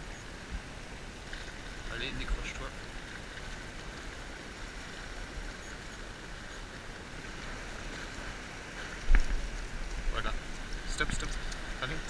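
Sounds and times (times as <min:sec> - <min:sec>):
sea: 0:00.0 - 0:12.0
wind buffeting microphone: 0:00.0 - 0:12.0.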